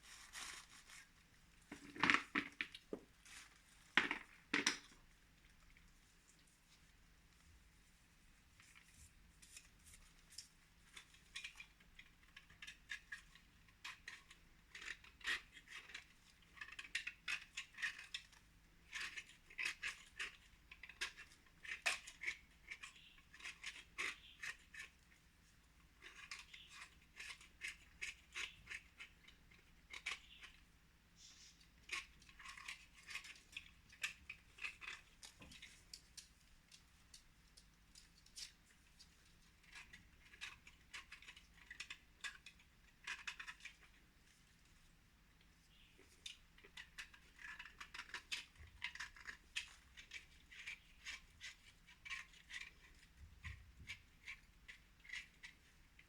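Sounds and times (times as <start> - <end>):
crisp clicks and scratching: 0.0 - 56.0.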